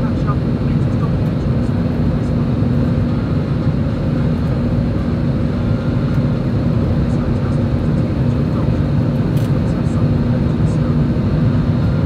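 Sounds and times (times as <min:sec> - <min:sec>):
jet engines and airflow roar: 0:00.0 - 0:12.0.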